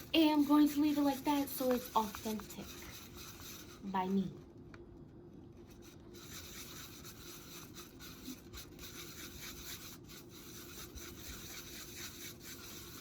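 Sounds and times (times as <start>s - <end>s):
paintbrush scratching a surface: 0.0s - 4.2s, 5.6s - 13.0s.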